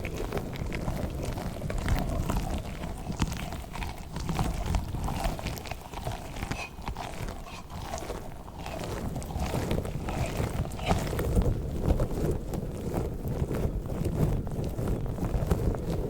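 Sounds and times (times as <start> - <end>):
squishy toy rubbing and squishing: 0.0 - 16.0.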